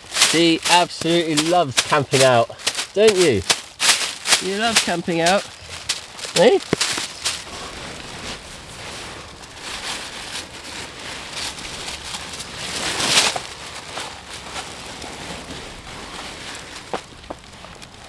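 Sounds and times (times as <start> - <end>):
close rustling and crinkling: 0.0 - 18.0.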